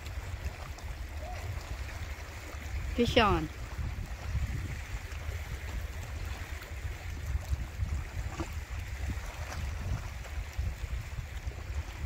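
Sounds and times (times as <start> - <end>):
waves lapping against rocks: 0.0 - 12.0
wind buffeting microphone: 0.0 - 12.0.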